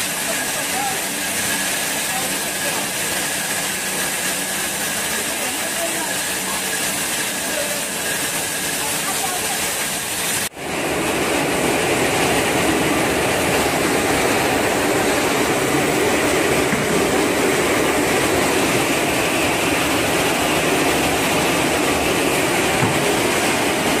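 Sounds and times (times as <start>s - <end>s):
industrial crusher running: 0.0s - 24.0s.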